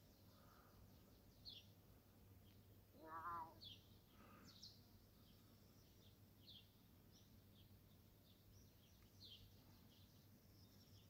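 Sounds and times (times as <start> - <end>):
faint bird chirps: 0.0 - 1.8, 2.4 - 11.0.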